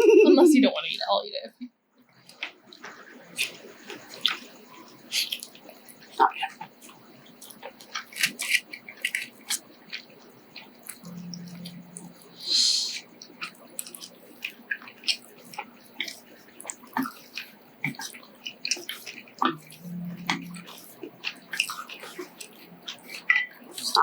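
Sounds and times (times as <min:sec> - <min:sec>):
wet chewing with mouth clicks: 0:02.1 - 0:24.0.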